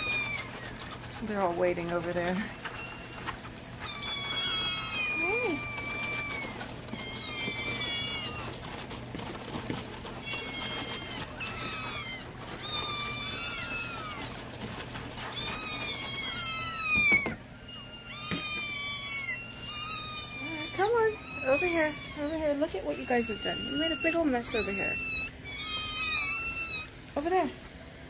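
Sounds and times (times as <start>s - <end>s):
kittens meowing: 0.0s - 1.2s, 2.5s - 9.0s, 9.6s - 27.1s.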